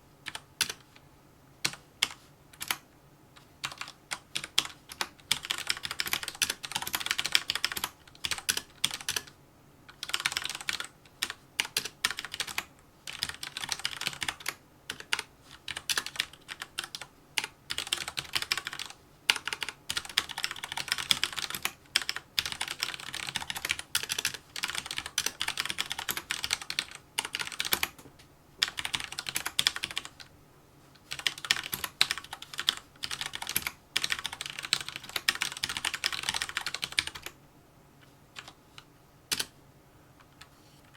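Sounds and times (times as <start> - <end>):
fast typing on mechanical keyboard: 0.3 - 0.8, 1.6 - 2.8, 3.6 - 28.0, 28.6 - 30.2, 31.1 - 37.4, 39.3 - 39.5.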